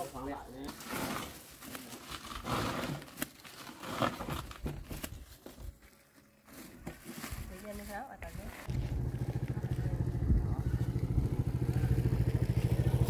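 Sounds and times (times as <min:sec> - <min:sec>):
rustling and crackling: 0:00.0 - 0:12.8.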